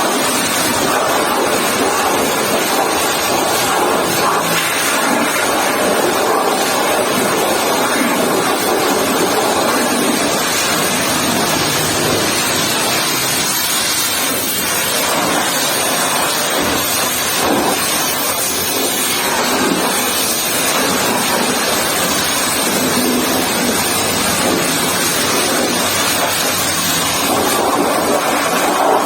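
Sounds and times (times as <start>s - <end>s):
pressure washer water jet hissing: 0.0s - 29.0s.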